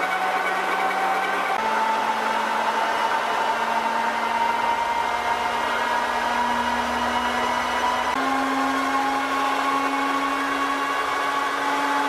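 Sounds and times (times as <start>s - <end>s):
lathe motor and gear whine: 0.0s - 12.0s.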